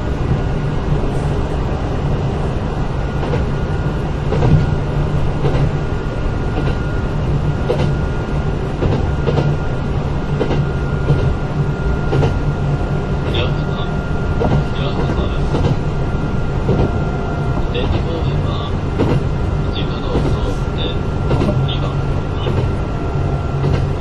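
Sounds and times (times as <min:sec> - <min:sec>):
thin steady whine: 0:00.0 - 0:24.0
train wheels rumbling: 0:00.0 - 0:24.0.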